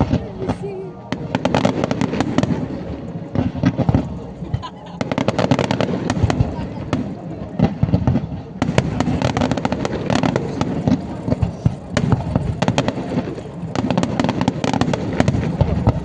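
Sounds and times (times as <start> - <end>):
fireworks crackling and popping: 0.0 - 16.0
rumble of bursting shells: 1.1 - 16.0.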